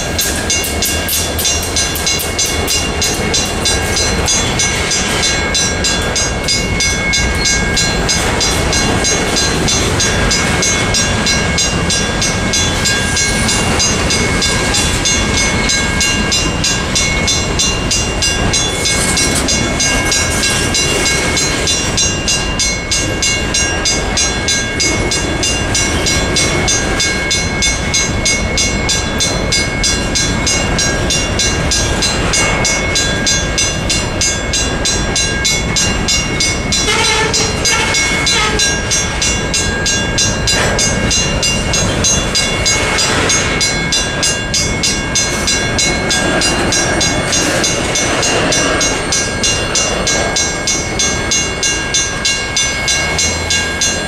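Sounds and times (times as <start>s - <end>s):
freight train wheels rumbling on rails: 0.0s - 54.0s
mechanical crossing bell ringing: 0.0s - 54.0s.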